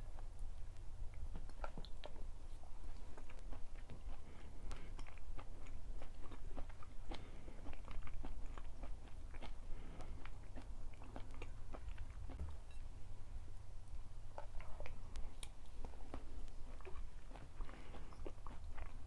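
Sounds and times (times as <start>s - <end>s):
person chewing food: 0.0s - 12.8s, 14.4s - 19.0s
low steady hum: 0.0s - 19.0s.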